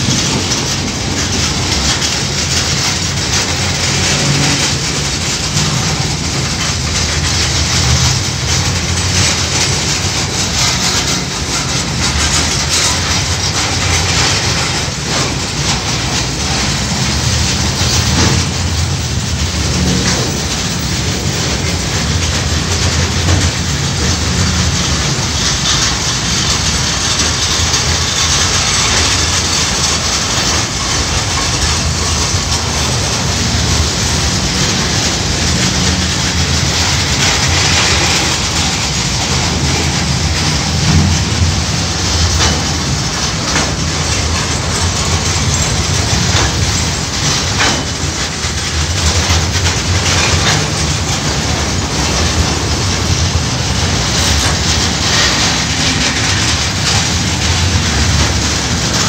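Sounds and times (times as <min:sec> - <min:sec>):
train wagons rumbling and rattling: 0:00.0 - 0:59.0
wheels clacking over rail joints: 0:00.0 - 0:59.0.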